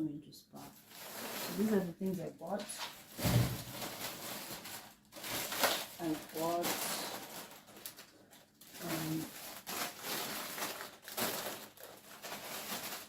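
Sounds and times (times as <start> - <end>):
plastic bags rustling: 0.6 - 13.0.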